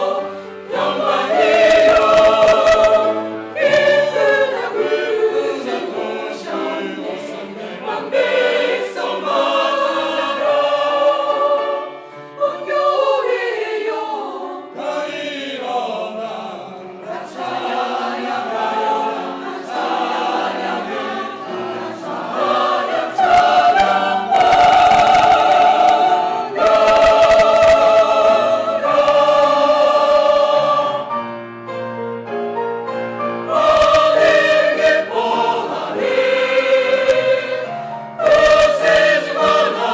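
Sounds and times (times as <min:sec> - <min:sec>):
church choir singing: 0:00.0 - 0:31.6, 0:33.0 - 0:39.9.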